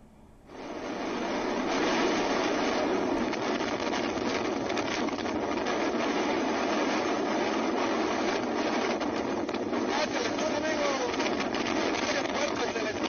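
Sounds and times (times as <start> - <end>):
strong wind: 0.0 - 13.0.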